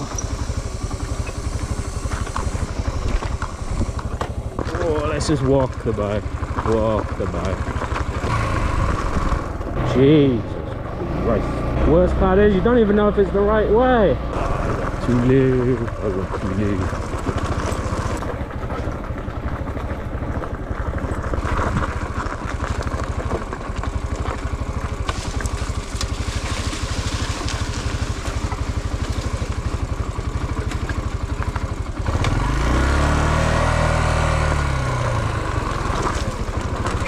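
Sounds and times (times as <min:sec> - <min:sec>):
dirt bike engine revving: 0:00.0 - 0:22.2, 0:24.1 - 0:37.0.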